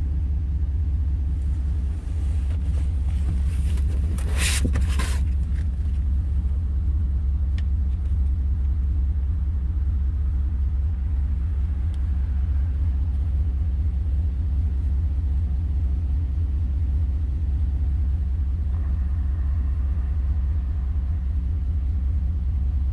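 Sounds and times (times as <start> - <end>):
engine misfiring with low rumble: 0.0 - 22.9.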